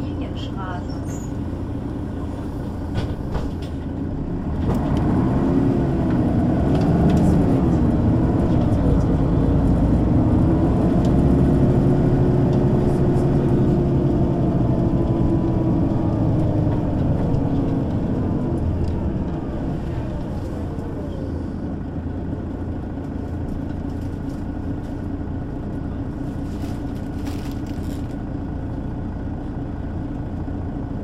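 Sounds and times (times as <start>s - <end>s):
bus engine pulling away: 0.0s - 31.0s.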